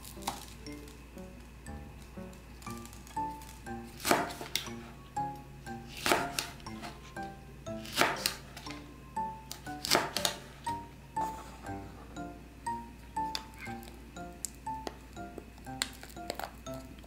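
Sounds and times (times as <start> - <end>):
plucked background music: 0.0 - 17.0.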